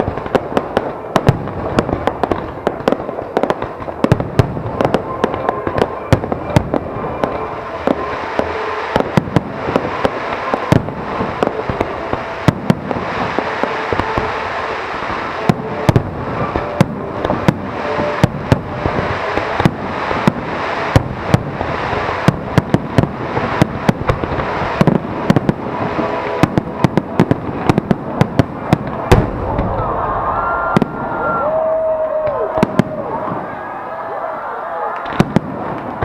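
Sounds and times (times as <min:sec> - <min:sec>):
fireworks crackling: 0:00.0 - 0:36.0.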